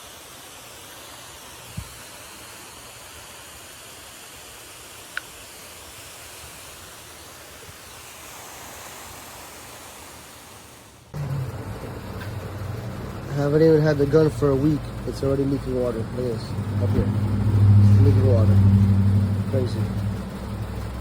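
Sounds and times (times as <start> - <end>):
pressure washer spraying water: 0.0 - 21.0.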